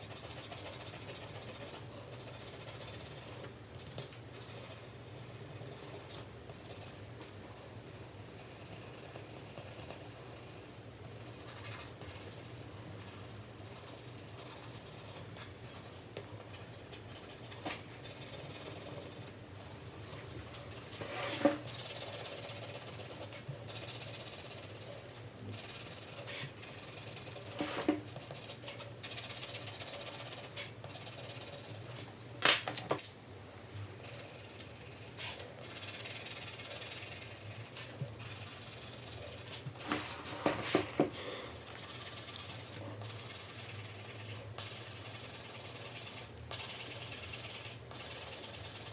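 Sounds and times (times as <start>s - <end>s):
pencil shading on paper: 0.0s - 7.0s, 7.9s - 31.9s, 34.0s - 48.9s.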